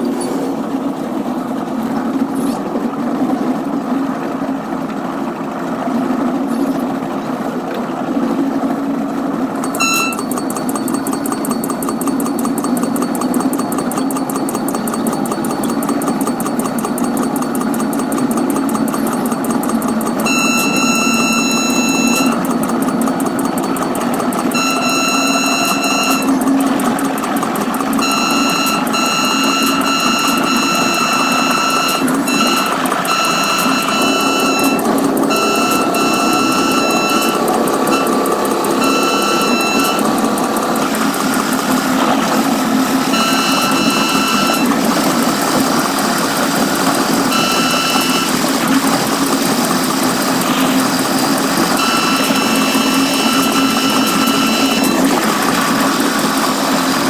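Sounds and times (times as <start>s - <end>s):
sped-up train running noise: 0.0s - 57.0s.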